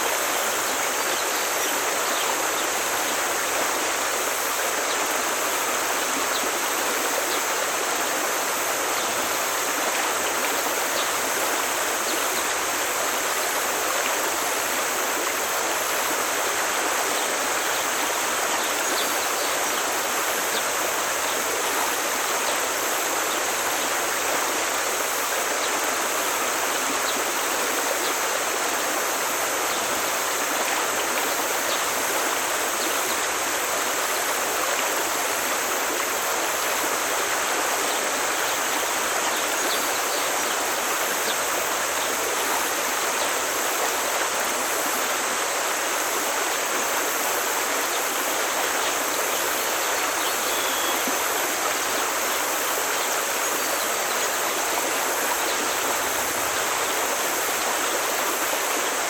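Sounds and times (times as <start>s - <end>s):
forest stream rushing: 0.0s - 59.0s.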